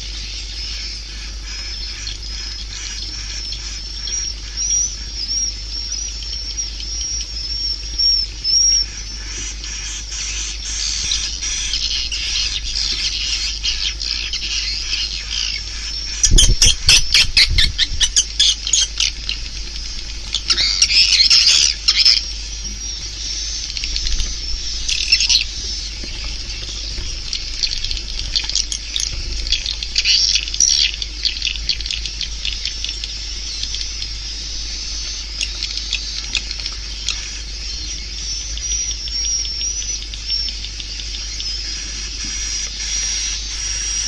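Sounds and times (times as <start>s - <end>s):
low hum: 0.0s - 43.8s
swiftlets twittering: 0.8s - 44.0s.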